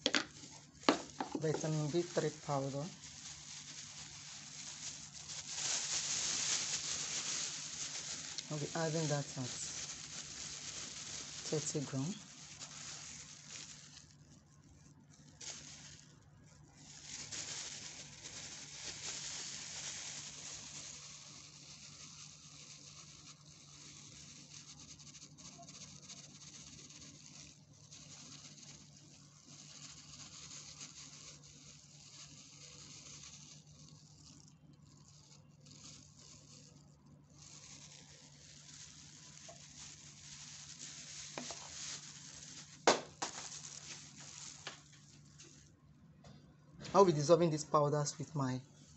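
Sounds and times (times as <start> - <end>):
powder shaken into scoop: 0.0 - 45.8
plastic bag crinkling: 0.0 - 48.9.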